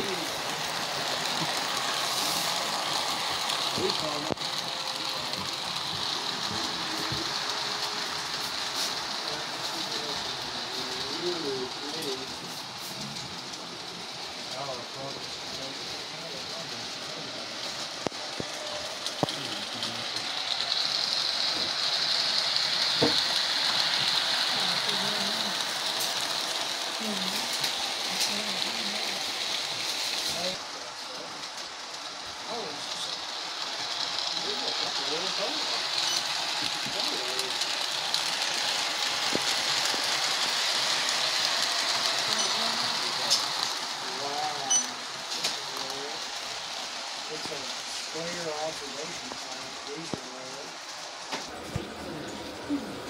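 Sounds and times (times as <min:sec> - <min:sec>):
model train wheels hissing on rail: 0:00.0 - 0:53.0.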